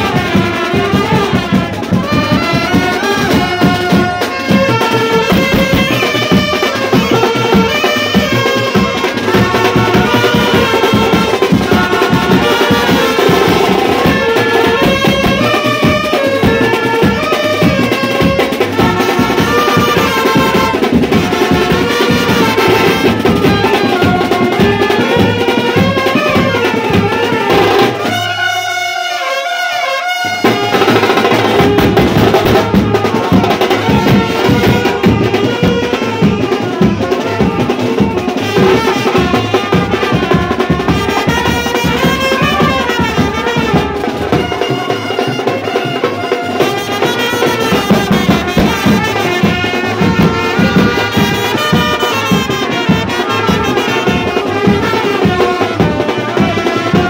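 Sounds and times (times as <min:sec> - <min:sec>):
pounding bass drums: 0:00.0 - 0:28.7, 0:30.2 - 0:57.0
trumpets and saxophone melody: 0:00.0 - 0:57.0.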